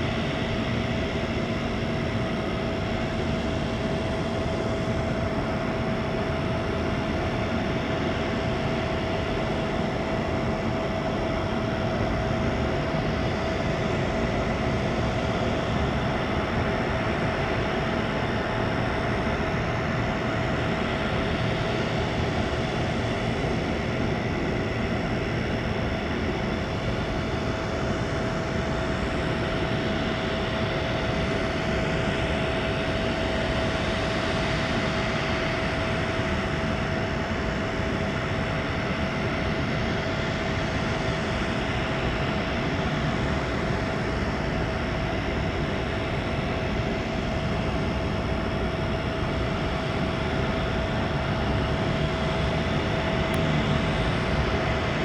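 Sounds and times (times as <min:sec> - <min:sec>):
auxiliary power unit running: 0:00.0 - 0:55.0.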